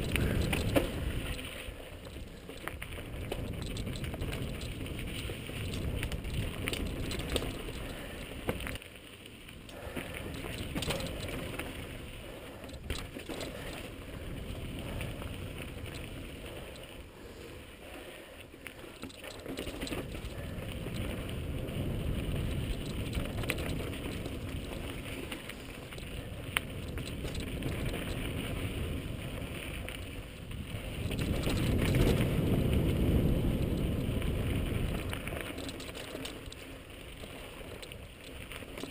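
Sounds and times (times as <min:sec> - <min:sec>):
low rush of wind: 0:00.0 - 0:08.9, 0:09.6 - 0:38.9
bike rattling: 0:00.0 - 0:38.9
bike tyres rolling over rock: 0:00.0 - 0:38.9.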